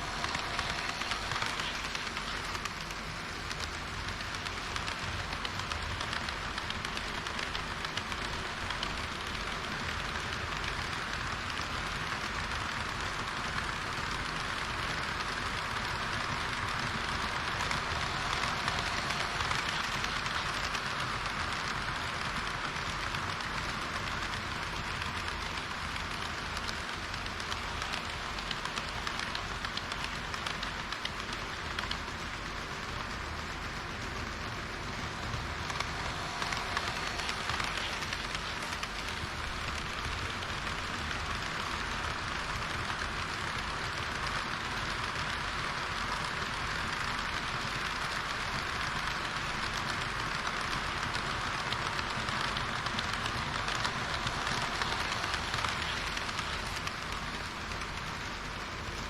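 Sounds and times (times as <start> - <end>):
model train rushing hiss: 0.0 - 59.0.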